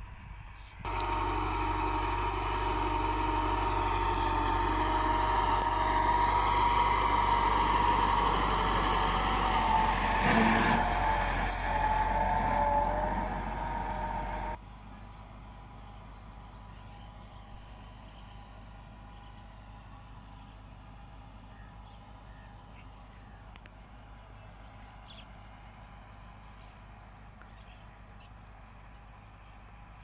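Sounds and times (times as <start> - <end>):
tractor diesel engine under load: 0.8 - 30.0.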